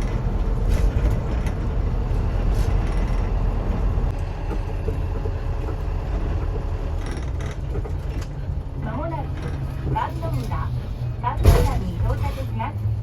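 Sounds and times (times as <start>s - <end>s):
low engine and road rumble: 0.0s - 13.0s.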